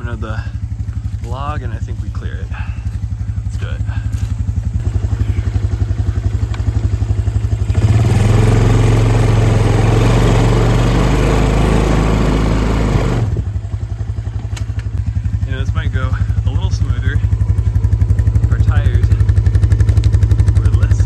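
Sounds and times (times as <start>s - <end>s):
atv engine idling and revving: 0.0s - 21.0s.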